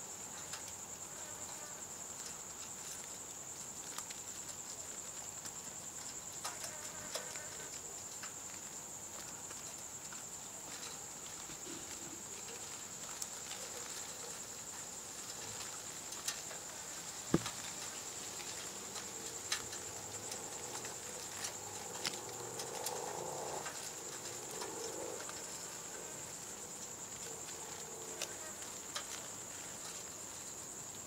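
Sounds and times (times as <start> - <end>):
night insects trilling: 0.0 - 31.0.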